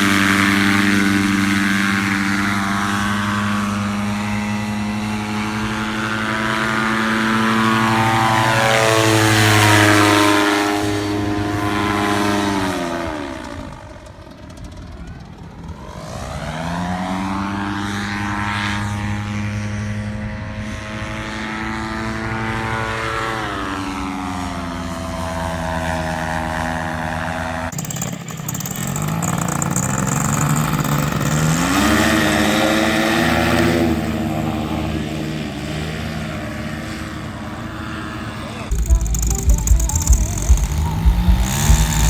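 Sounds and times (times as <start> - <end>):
paramotor engine and propeller: 0.0 - 42.0.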